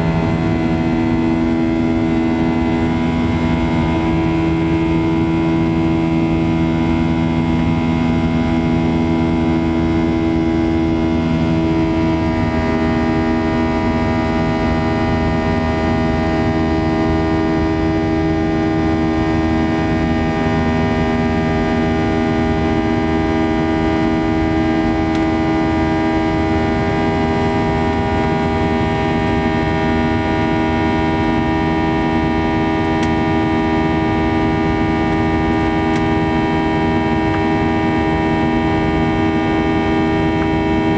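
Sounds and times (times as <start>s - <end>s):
jet engines heard inside cabin: 0.0s - 40.9s.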